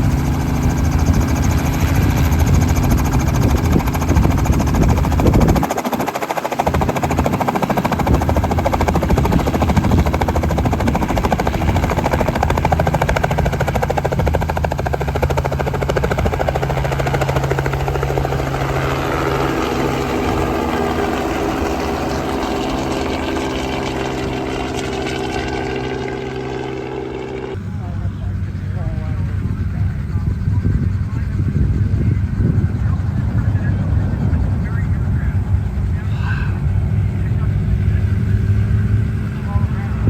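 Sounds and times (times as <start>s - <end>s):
aircraft engines running: 0.0s - 40.0s.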